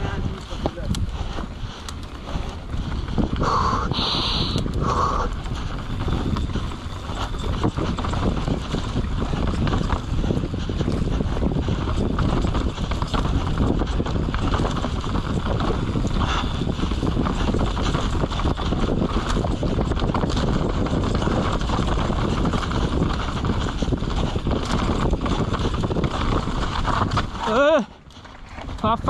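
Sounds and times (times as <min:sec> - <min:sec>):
bike tyres and frame rattling: 0:00.0 - 0:29.0
wind buffeting microphone: 0:00.0 - 0:29.0.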